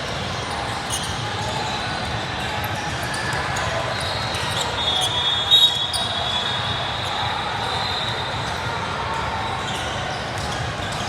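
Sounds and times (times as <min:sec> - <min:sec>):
crowd din: 0:00.0 - 0:11.0.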